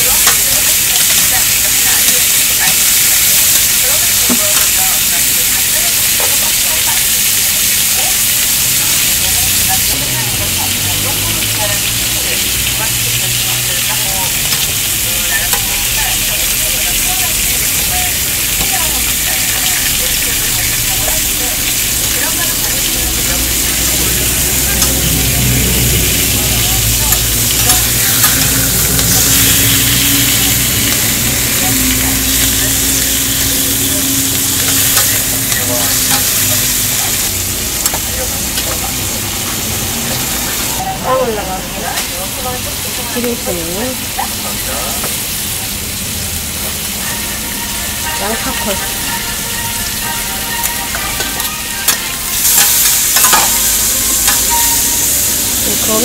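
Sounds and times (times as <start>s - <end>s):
tongs and spatula scraping metal: 0.0s - 10.0s, 12.1s - 39.2s, 46.6s - 56.0s
food sizzling on a griddle: 0.0s - 56.0s.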